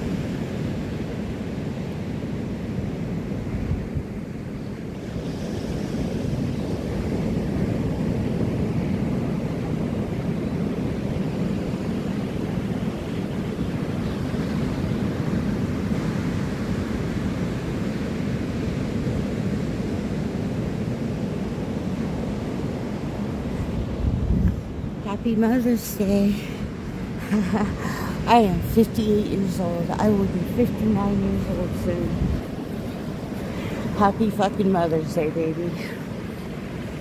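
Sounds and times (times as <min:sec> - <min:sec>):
ocean surf breaking: 0:00.0 - 0:37.0
wind rumbling on microphone: 0:00.0 - 0:37.0.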